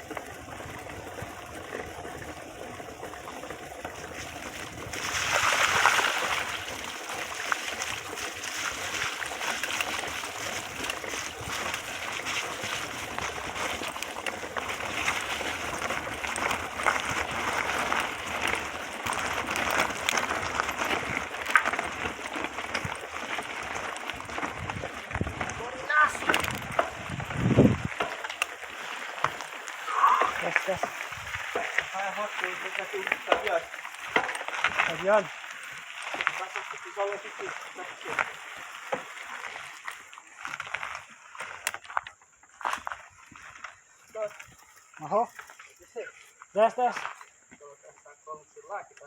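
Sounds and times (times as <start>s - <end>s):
stream water rushing and trickling: 0.0s - 41.8s.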